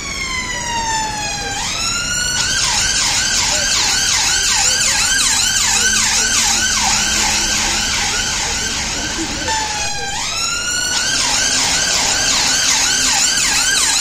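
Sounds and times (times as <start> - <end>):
police siren wailing and yelping: 0.0 - 14.0
street traffic hum: 0.0 - 14.0.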